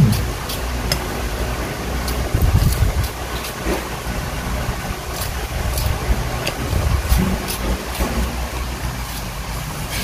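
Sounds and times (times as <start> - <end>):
metal spoon scraping mango: 0.0 - 4.3, 4.9 - 10.0
electric fan running: 0.0 - 10.0.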